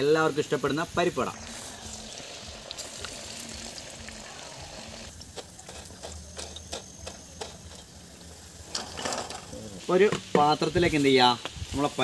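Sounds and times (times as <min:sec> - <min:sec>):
deep-frying sizzle: 0:00.0 - 0:12.0.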